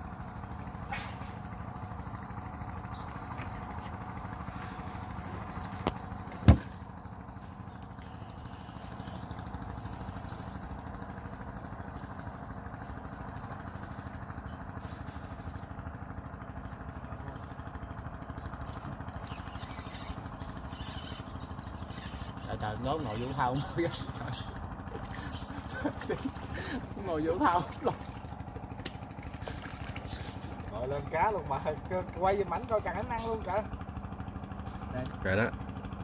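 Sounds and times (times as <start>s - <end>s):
small engine idling: 0.0s - 36.0s.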